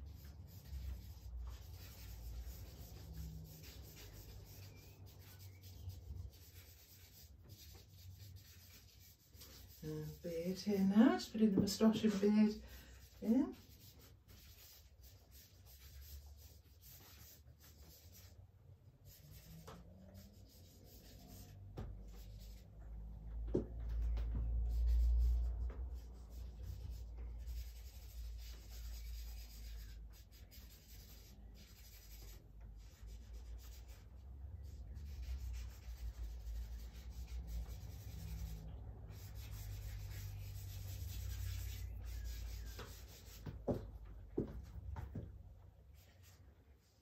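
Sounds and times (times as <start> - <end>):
charcoal scratching on paper: 0.0 - 18.4, 19.0 - 22.6, 24.4 - 43.6.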